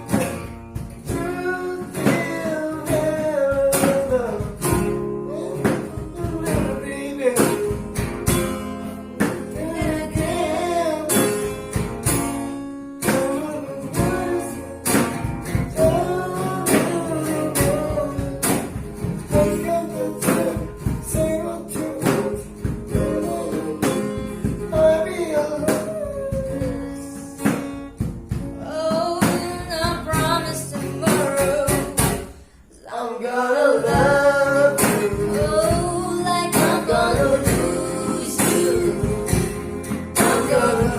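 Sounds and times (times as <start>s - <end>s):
acoustic guitar strumming: 0.0s - 40.9s
person singing: 1.0s - 8.0s, 8.7s - 11.5s, 13.0s - 15.1s, 15.7s - 27.5s, 28.6s - 40.9s.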